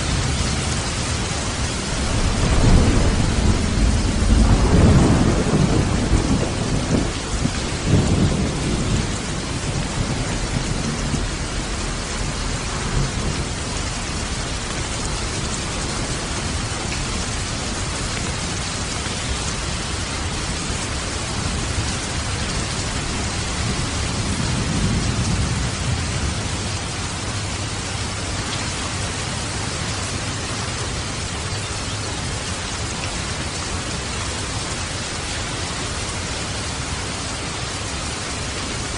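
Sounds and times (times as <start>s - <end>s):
low thunder rumbles: 0.0s - 31.7s
rain and falling water: 0.0s - 38.9s.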